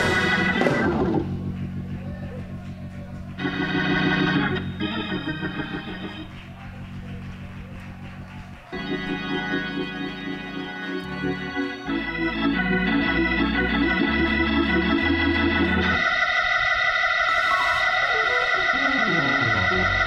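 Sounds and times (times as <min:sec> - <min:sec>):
organ playing chords: 0:00.0 - 0:20.0.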